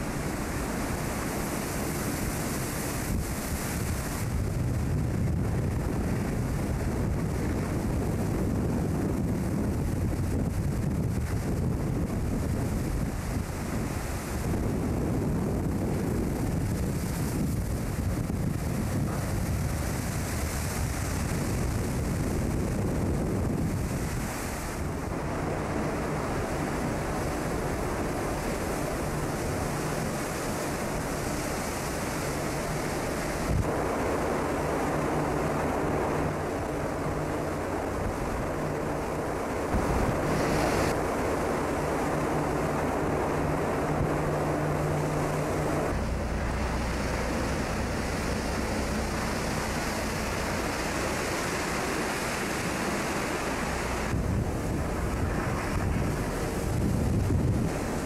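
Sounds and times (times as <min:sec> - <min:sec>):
low steady hum: 0:00.0 - 0:58.0
waves crashing on ship deck: 0:00.0 - 0:58.0
wind buffeting microphone: 0:00.0 - 0:58.0.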